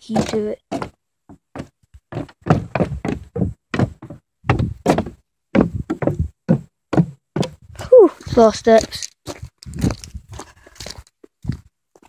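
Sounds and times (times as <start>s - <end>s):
boot footsteps on stairs: 0.0s - 12.0s.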